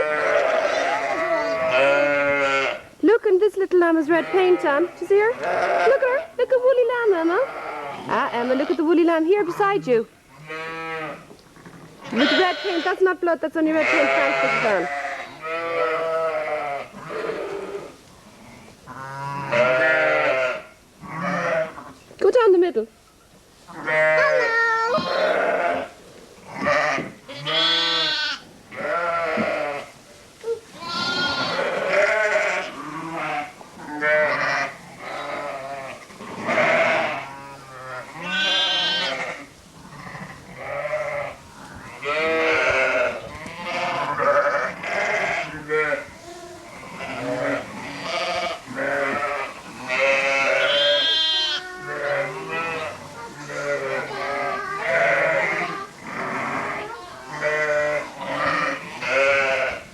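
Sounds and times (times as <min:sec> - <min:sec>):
sheep and lambs bleating: 0:00.0 - 0:02.9, 0:03.9 - 0:22.0, 0:23.7 - 0:29.9, 0:30.7 - 0:59.9.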